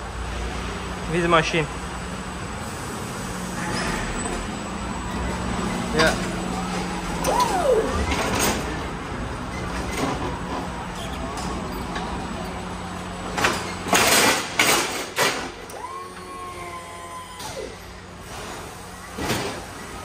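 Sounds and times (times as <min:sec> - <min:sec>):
forklift low hum: 0:00.0 - 0:20.0
forklift whine: 0:01.7 - 0:20.0.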